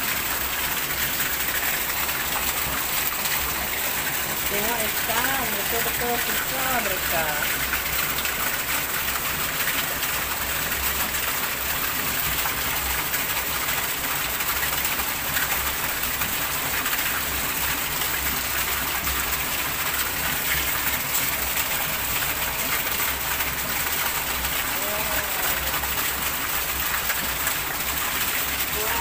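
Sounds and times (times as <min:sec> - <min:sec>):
heavy rain on pond water: 0:00.0 - 0:29.0.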